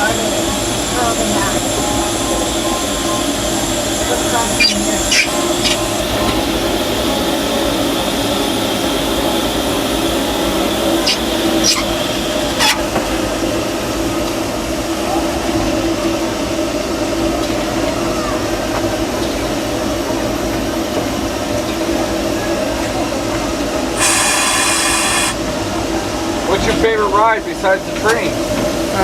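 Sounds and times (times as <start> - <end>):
steam locomotive mechanical hum: 0.0 - 29.0.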